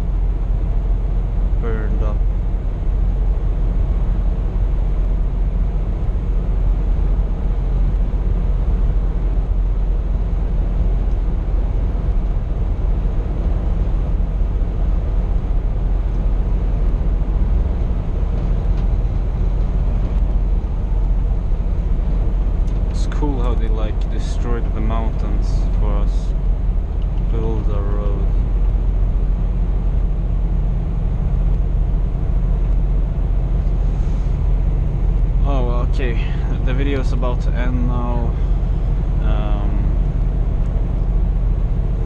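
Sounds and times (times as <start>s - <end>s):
truck engine and road noise: 0.0s - 42.0s.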